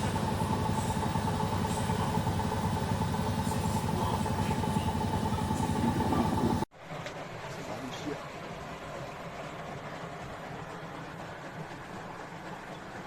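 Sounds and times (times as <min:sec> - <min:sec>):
washing machine rumble and whine: 0:00.0 - 0:13.0.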